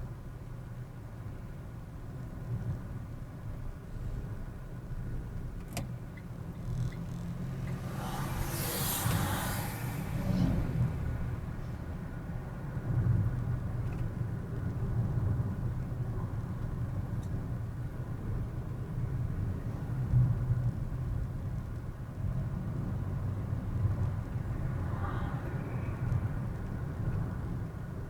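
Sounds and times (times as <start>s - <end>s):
road and engine rumble inside car: 0.0s - 28.0s.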